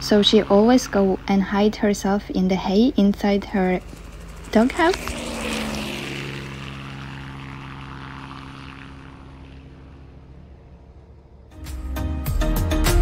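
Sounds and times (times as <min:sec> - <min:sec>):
aircraft engine hum: 0:00.0 - 0:13.0.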